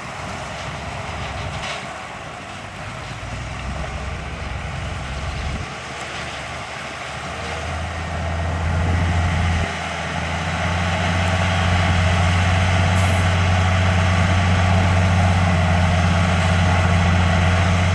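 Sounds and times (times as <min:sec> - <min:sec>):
heavy diesel engine droning: 0:00.0 - 0:17.9.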